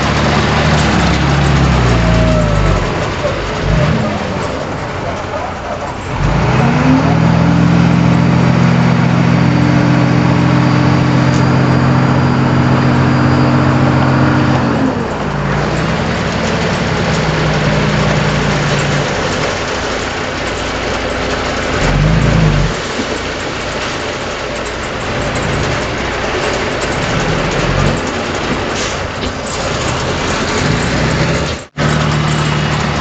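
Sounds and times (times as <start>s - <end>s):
bulldozer diesel engine revving: 0.0s - 23.8s, 24.6s - 33.0s.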